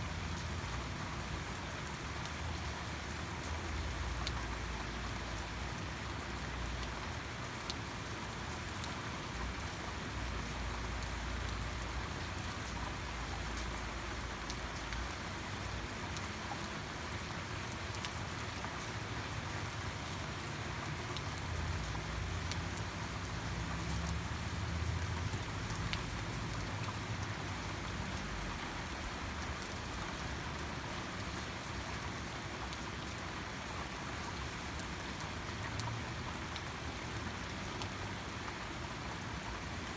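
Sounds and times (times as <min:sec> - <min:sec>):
rain drops ticking: 0:00.0 - 0:39.9
steady rain hiss: 0:00.0 - 0:39.9.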